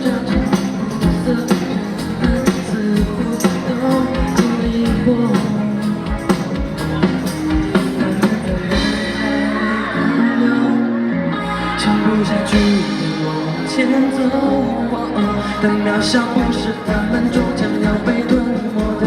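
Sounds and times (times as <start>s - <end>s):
steady drum beat: 0.0s - 10.0s, 12.0s - 14.4s, 15.7s - 19.0s
electric guitar: 0.0s - 19.0s
live pop-rock band playing: 0.0s - 19.0s.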